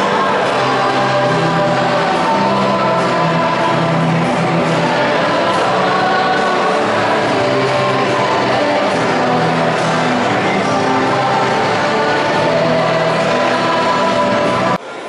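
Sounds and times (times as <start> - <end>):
choir singing a hymn: 0.0 - 14.8.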